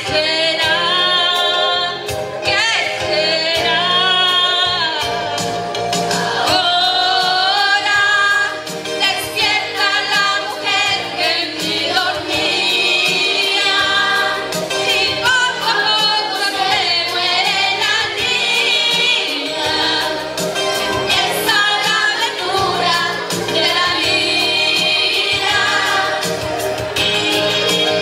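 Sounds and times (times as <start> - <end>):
woman singing: 0.0 - 5.2, 6.4 - 20.2, 21.0 - 26.2
instrumental backing music: 0.0 - 28.0.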